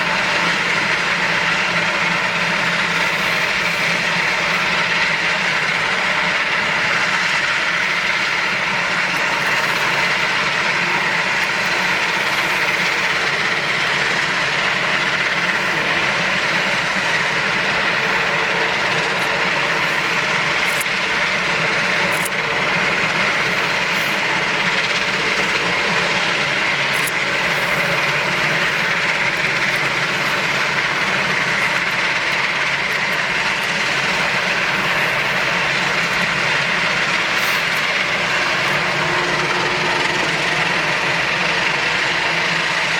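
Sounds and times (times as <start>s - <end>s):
aircraft engines idling: 0.0s - 42.9s.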